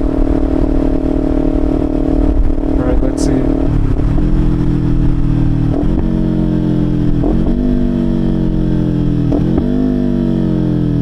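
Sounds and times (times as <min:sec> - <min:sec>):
engine throttle blips: 0:00.0 - 0:11.0.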